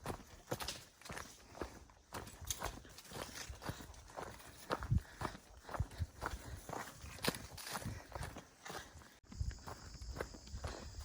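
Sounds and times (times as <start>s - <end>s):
footsteps on trail: 0.0s - 11.0s.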